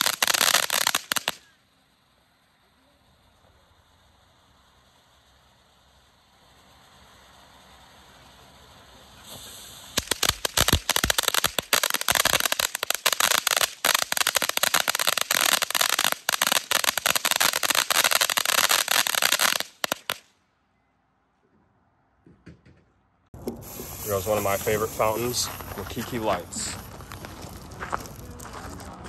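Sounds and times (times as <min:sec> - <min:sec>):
firework hiss: 0:00.0 - 0:20.3, 0:23.4 - 0:29.0
firework crackling pops: 0:00.0 - 0:20.4, 0:23.4 - 0:29.0.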